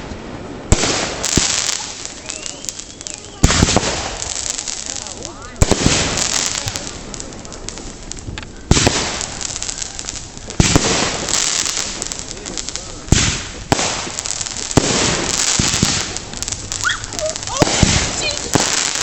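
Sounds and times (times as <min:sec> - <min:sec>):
fireworks bangs with crackling: 0:00.0 - 0:19.0.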